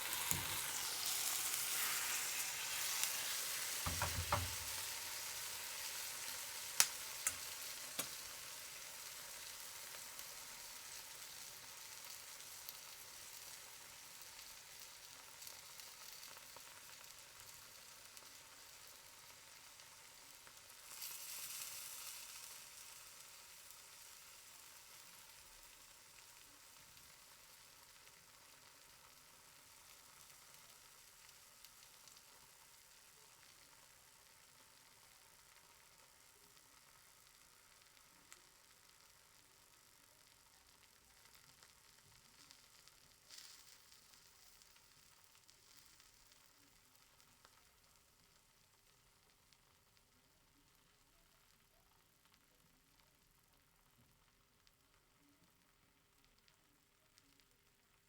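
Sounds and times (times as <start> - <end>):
eggs sizzling in a pan: 0.0 - 58.0.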